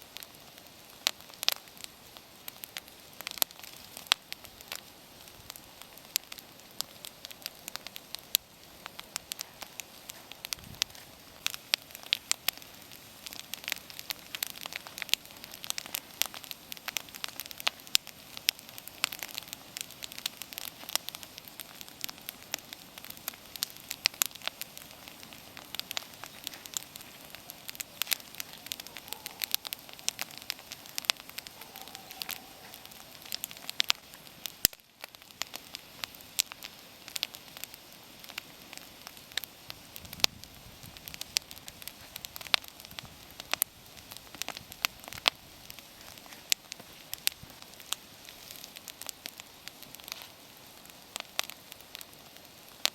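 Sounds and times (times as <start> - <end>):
campfire crackling and popping: 0.0 - 52.9
fire hissing: 0.0 - 52.9.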